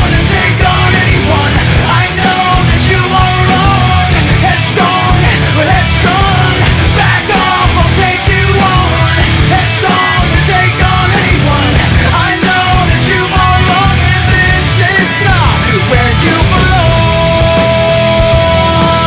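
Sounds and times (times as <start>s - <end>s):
loud punk rock music: 0.0s - 19.0s.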